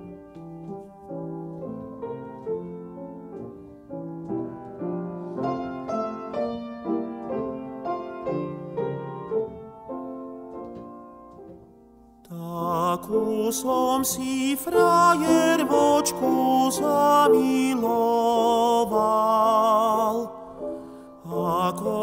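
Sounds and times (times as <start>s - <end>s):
solo piano: 0.0s - 22.0s.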